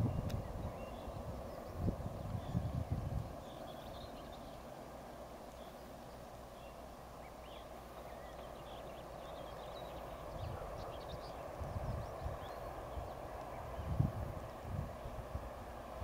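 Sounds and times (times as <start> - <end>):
small birds chirping: 0.0 - 15.8
distant diesel locomotive rumble: 0.0 - 16.0.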